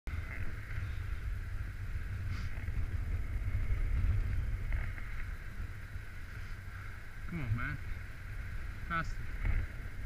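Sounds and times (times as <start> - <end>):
wind buffeting microphone: 0.1 - 10.0.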